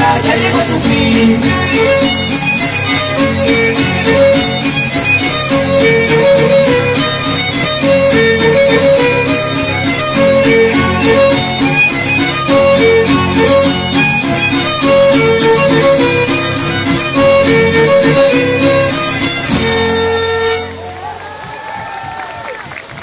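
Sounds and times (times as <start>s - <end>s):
violin melody: 0.0s - 21.0s
strummed guitars: 0.0s - 21.1s.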